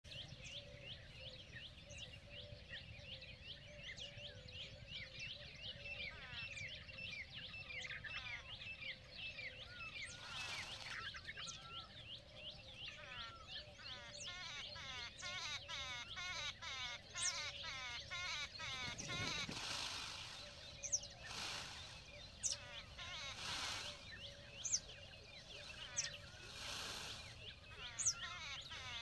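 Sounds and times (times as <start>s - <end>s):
small birds chirping: 0.1s - 29.0s.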